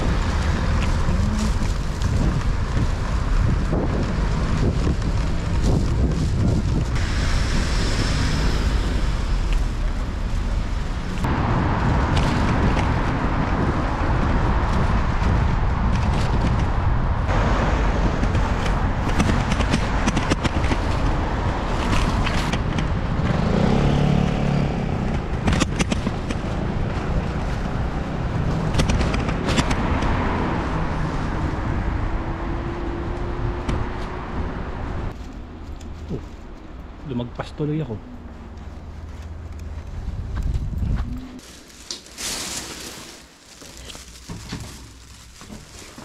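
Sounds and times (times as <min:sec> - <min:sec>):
wind rushing over microphone: 0:00.0 - 0:37.1, 0:37.9 - 0:41.4
road noise: 0:00.0 - 0:46.0
traffic: 0:00.0 - 0:46.0.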